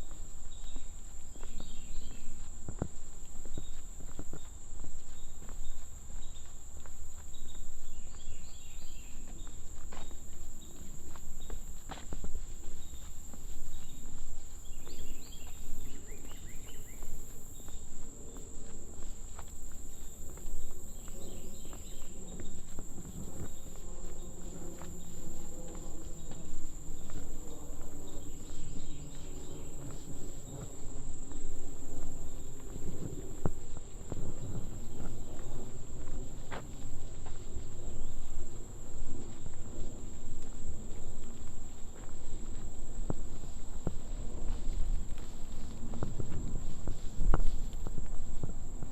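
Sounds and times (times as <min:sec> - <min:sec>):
footsteps on a trail: 0:00.0 - 0:48.9.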